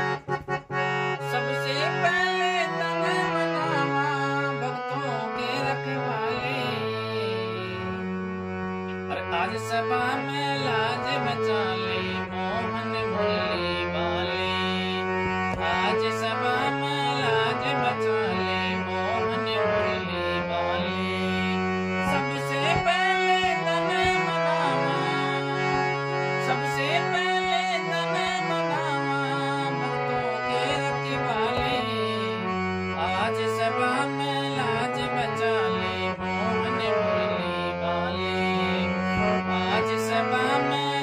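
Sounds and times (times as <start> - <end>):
man singing: 0.0 - 8.2, 8.9 - 41.0
harmonium chords: 0.0 - 41.0.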